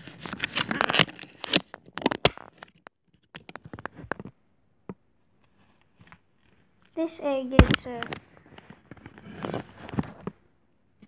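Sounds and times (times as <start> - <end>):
crackling handling noise: 0.0 - 11.0.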